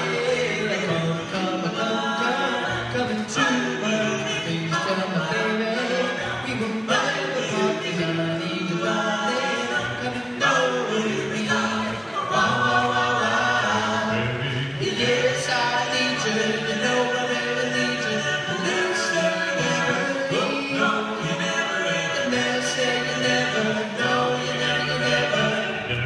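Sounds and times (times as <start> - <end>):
a cappella group singing harmony: 0.0 - 26.0.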